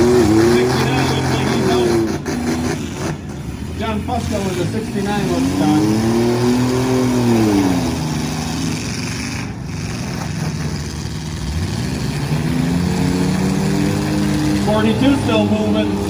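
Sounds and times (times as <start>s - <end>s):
truck engines revving: 0.0s - 16.0s.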